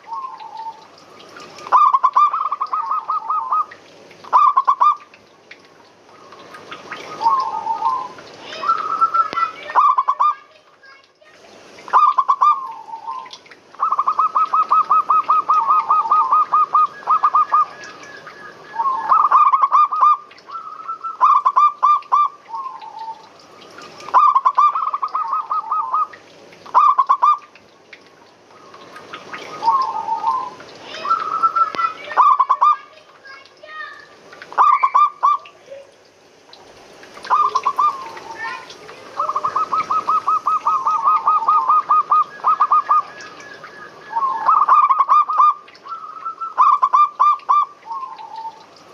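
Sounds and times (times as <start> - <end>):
doves cooing: 0.0 - 5.0, 6.1 - 10.4, 11.9 - 27.5, 28.5 - 32.8, 37.2 - 48.8.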